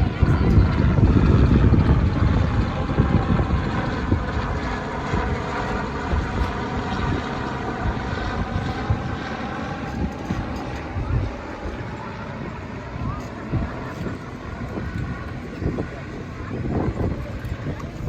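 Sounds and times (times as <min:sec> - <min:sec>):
helicopter flying overhead: 0:00.0 - 0:18.0.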